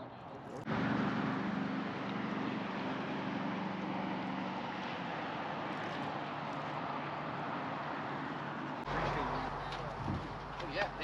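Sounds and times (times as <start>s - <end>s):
traffic rushing on a bridge: 0.0s - 11.0s
vehicle low hum: 0.3s - 11.0s.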